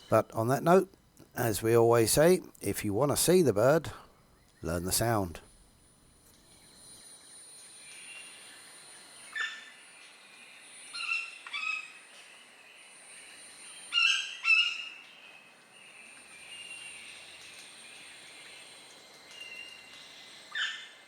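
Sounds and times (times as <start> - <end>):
high insect whine: 0.0 - 21.0.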